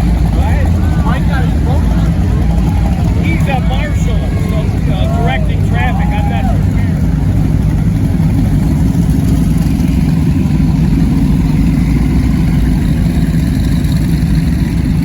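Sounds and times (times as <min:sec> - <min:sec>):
powerboat engines rumbling: 0:00.0 - 0:15.0.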